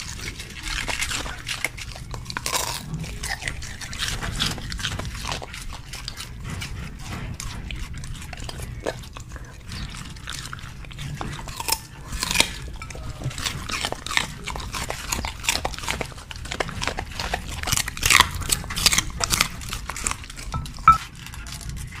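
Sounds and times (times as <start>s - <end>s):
dogs crunching cabbage leaves: 0.0s - 22.0s
wet chewing: 0.0s - 22.0s.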